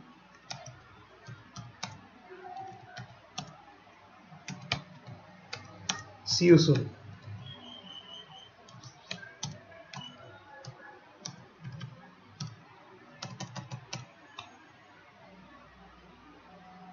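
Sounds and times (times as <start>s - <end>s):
keyboard typing: 0.2s - 3.6s, 4.4s - 14.6s.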